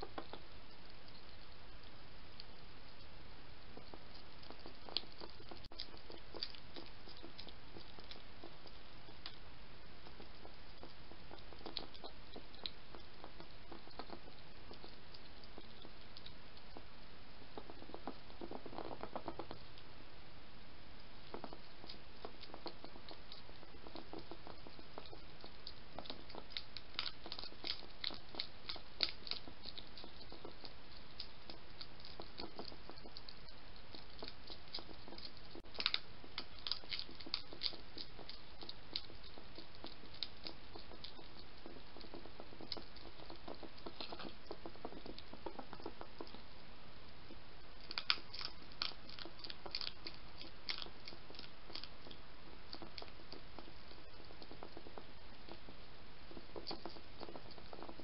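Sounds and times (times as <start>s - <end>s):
background hiss: 0.0s - 58.0s
hedgehog chewing food: 0.0s - 58.0s.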